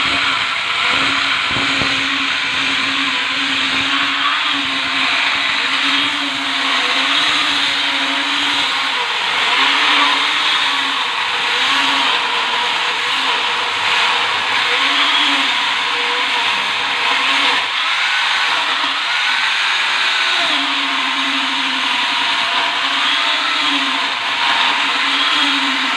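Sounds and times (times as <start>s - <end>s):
mini chainsaw running: 0.0s - 25.9s.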